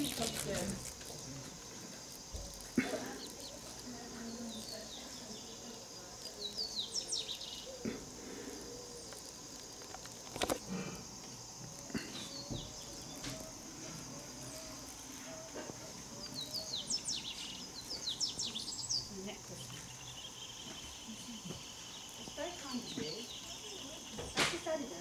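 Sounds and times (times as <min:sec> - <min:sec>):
birds chirping: 0:00.0 - 0:25.0
high-pitched insect drone: 0:00.0 - 0:25.0.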